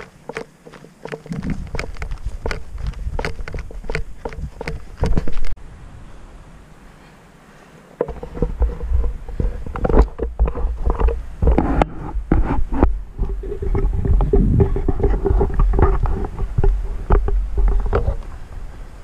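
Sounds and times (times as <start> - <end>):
microphone handling noise: 0.0 - 5.6, 8.0 - 18.7
steady low hum: 0.0 - 19.0
wind rumble on microphone: 1.2 - 6.6, 8.0 - 19.0.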